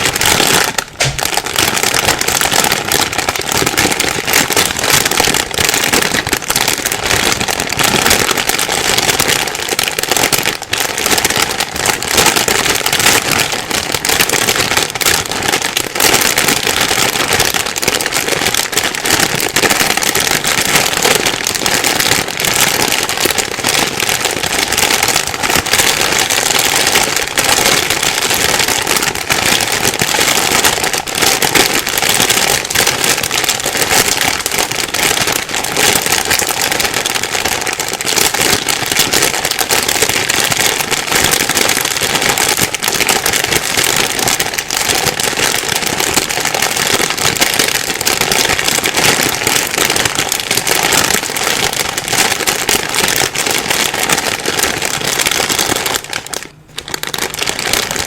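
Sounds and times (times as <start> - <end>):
plastic bag crinkling: 0.0 - 58.0.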